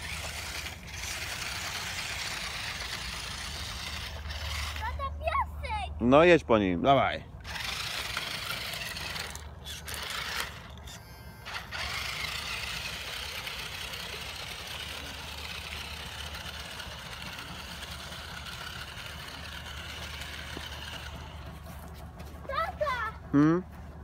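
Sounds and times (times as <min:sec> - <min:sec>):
toy car motor whining: 0:00.0 - 0:05.4, 0:07.4 - 0:21.5.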